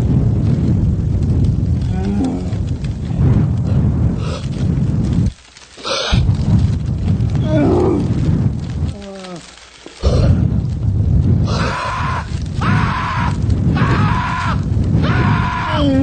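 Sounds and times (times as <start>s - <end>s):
heavy low rumbling: 0.0s - 16.0s.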